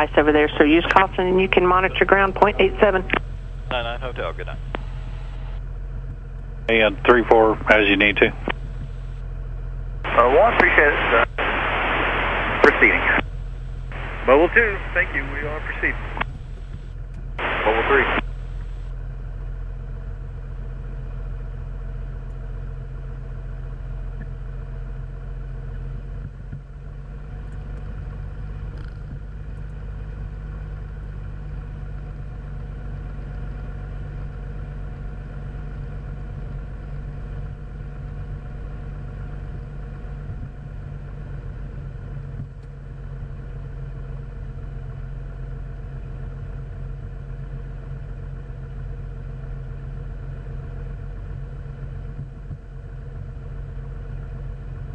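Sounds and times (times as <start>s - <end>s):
aircraft engine droning: 0.0s - 49.2s.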